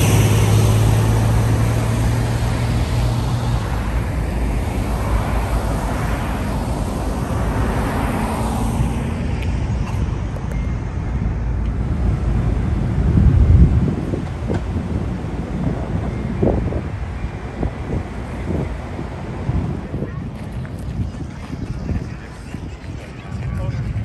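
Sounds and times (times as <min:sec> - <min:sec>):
car passing by: 0:00.0 - 0:24.0
low rumble: 0:00.0 - 0:24.0
traffic hum: 0:00.0 - 0:24.0.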